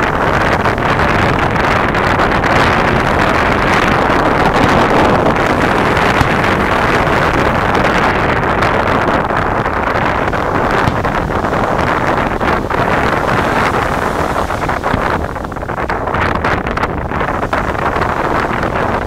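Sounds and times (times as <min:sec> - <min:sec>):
surf roaring on beach: 0:00.0 - 0:19.0
wind buffeting microphone: 0:00.0 - 0:19.0.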